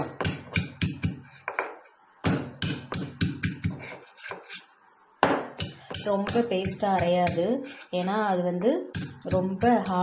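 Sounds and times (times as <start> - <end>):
pestle knocking in mortar: 0.0 - 4.5, 5.2 - 7.8, 8.9 - 10.0.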